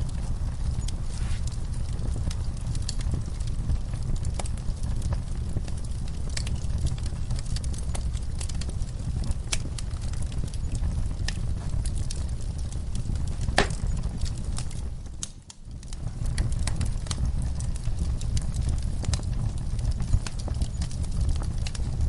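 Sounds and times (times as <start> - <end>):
fireplace crackling and popping: 0.0 - 22.0.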